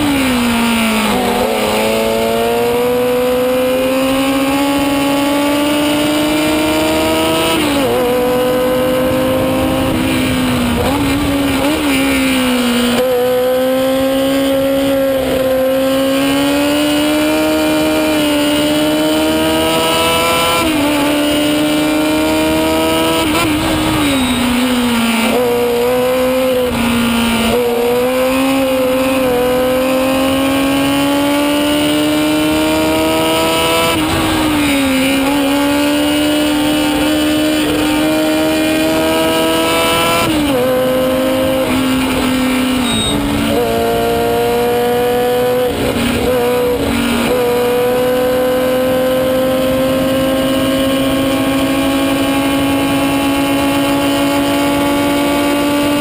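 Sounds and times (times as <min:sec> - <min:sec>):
racing engine at high revs: 0:00.0 - 0:56.0.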